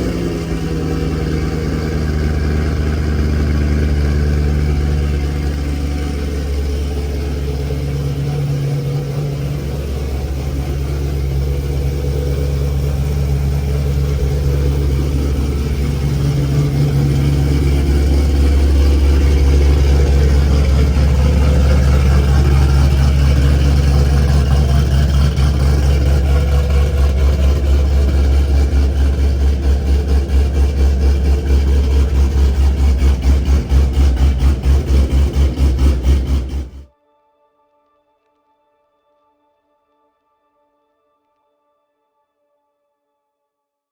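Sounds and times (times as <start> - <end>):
car engine exhaust rumble: 0.0 - 36.9.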